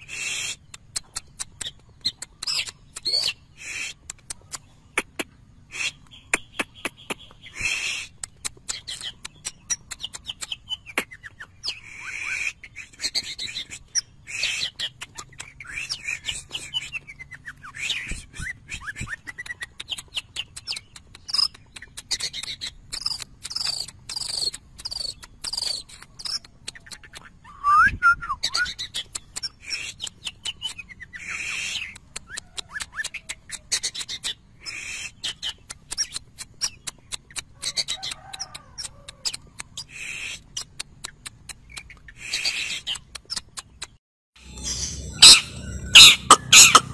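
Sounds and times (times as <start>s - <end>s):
bird singing fast chirps: 0.0s - 46.9s.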